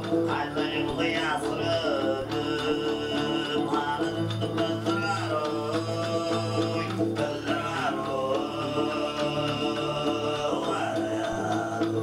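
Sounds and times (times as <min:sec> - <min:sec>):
picked strings: 0:00.0 - 0:12.0
throat singing: 0:00.0 - 0:12.0.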